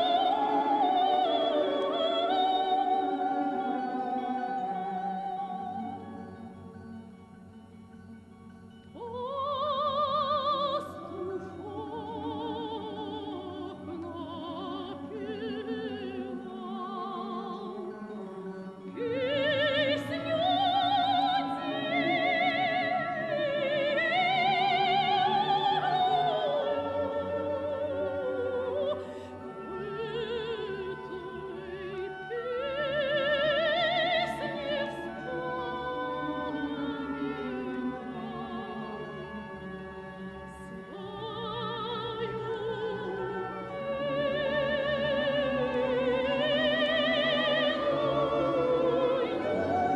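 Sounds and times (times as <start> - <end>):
operatic singing voice: 0.0 - 6.7, 8.9 - 49.9
orchestral accompaniment: 0.0 - 49.9.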